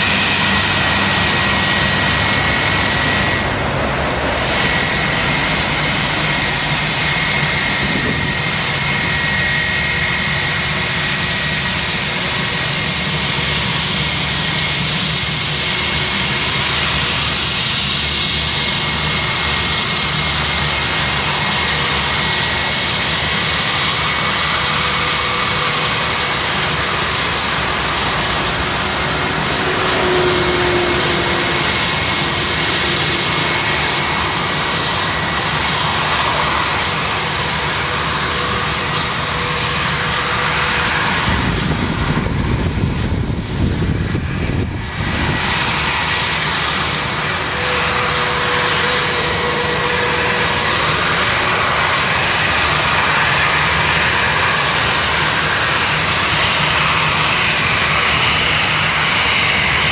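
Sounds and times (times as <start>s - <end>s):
jet engines taxiing: 0.0s - 59.9s.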